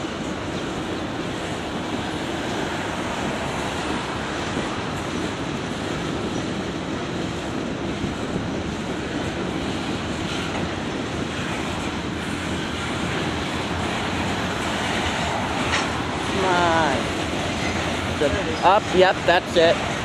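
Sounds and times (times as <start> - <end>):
freight train wheels rumbling on rail: 0.0 - 20.0.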